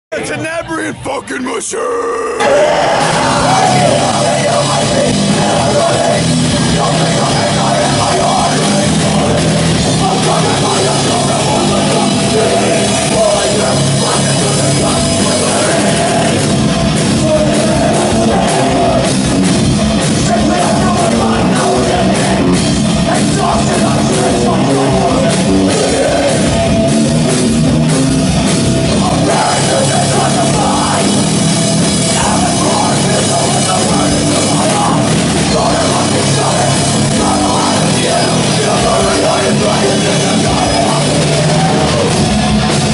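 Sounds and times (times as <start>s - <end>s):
metal band playing live: 0.2s - 42.9s
rapid drum and cymbal hits: 3.0s - 42.9s.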